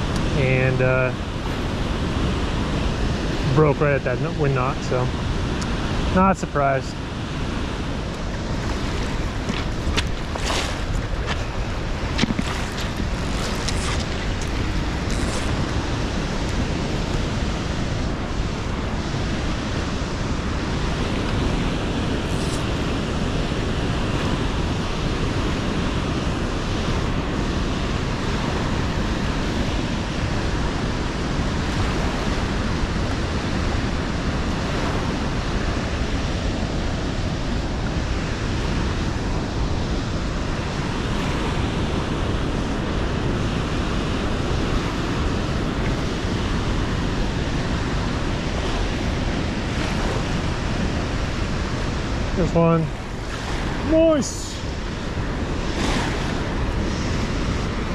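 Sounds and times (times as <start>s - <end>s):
river rushing: 0.0s - 57.9s.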